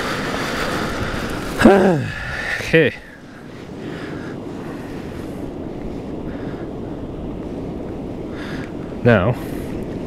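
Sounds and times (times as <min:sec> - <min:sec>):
wind blowing across microphone: 0:00.0 - 0:10.0.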